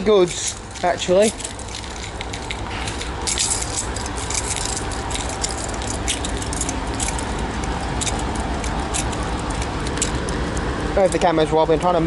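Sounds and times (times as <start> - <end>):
train wagons rumbling and rattling: 0.0 - 12.0
wheels clicking over rail joints: 0.0 - 12.0.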